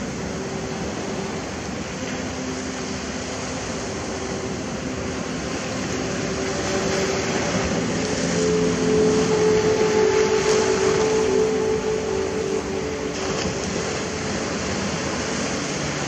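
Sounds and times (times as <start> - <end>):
faint engine hum: 0.0 - 16.0
waves washing on shore: 0.0 - 16.0.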